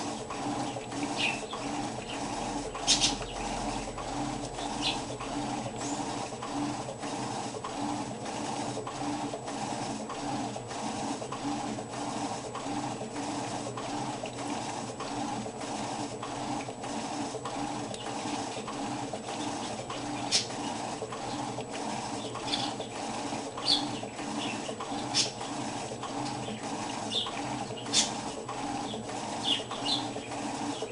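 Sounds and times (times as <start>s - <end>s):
washing machine churning: 0.0s - 30.9s.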